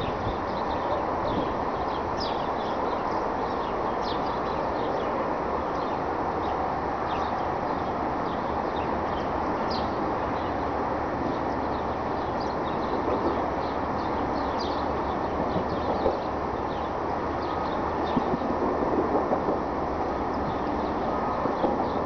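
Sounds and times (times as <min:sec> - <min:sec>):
small birds chirping: 0:00.0 - 0:10.7, 0:11.3 - 0:18.5.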